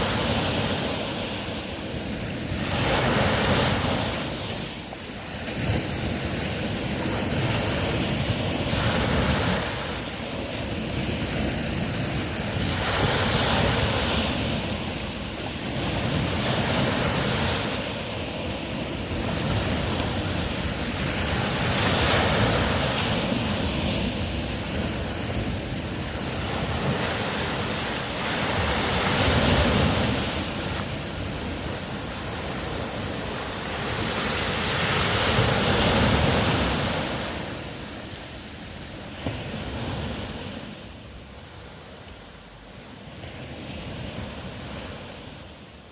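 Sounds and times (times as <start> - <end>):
ocean waves washing in: 0.0 - 45.9.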